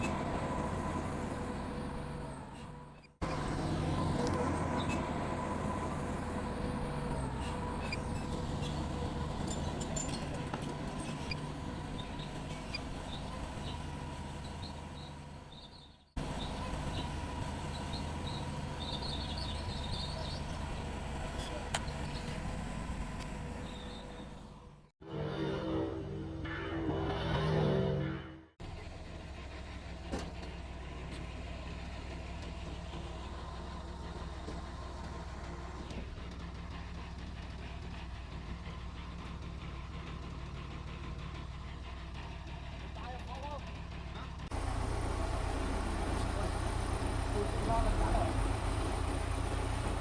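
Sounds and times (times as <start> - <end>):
bulldozer diesel engine running: 0.0 - 50.0.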